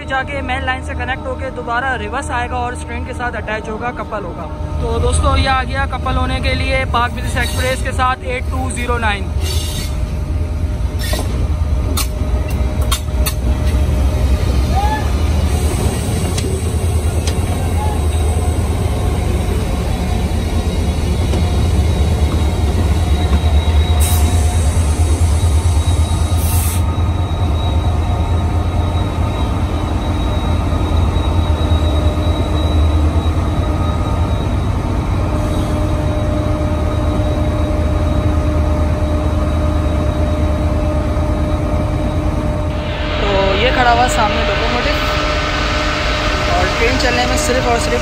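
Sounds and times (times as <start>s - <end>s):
diesel locomotive engine rumbling: 0.0s - 48.0s.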